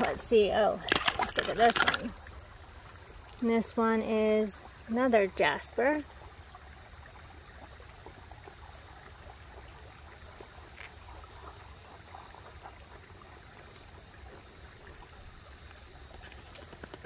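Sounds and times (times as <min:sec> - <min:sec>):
river water trickling: 0:00.0 - 0:17.0.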